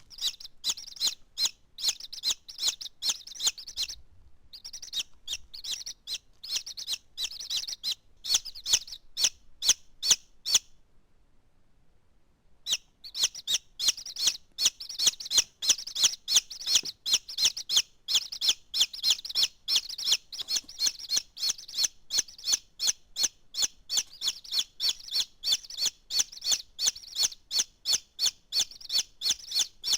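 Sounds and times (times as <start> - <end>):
chicks peeping: 0.0 - 10.6, 12.7 - 29.9.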